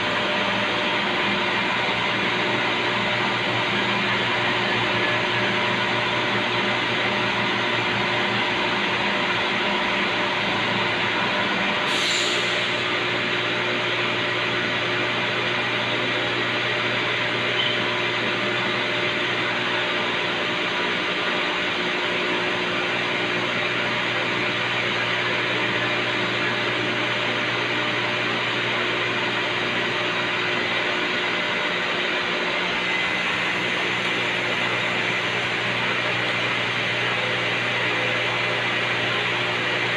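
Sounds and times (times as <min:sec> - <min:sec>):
machining centre humming: 0:00.0 - 0:39.9.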